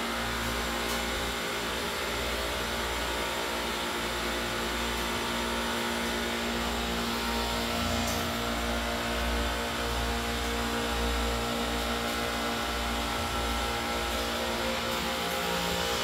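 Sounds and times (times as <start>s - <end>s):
refrigeration compressors droning: 0.0s - 16.0s.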